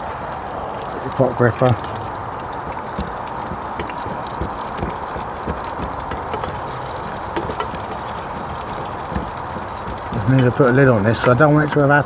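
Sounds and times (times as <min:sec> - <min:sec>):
onions sizzling in hot oil: 0:00.0 - 0:12.0
light knocks: 0:01.6 - 0:12.0.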